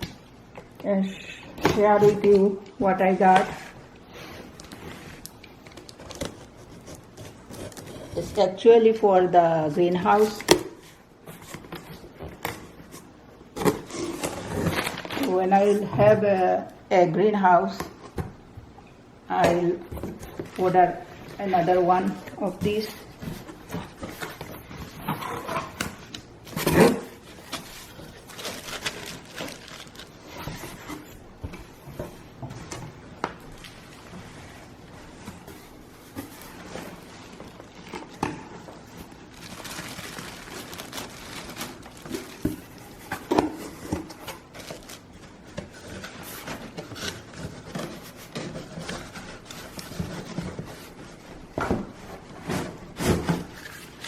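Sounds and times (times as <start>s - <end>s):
box packaging scraping and rustling: 3.3s - 8.6s, 10.1s - 16.3s, 19.8s - 33.0s, 33.6s - 54.0s.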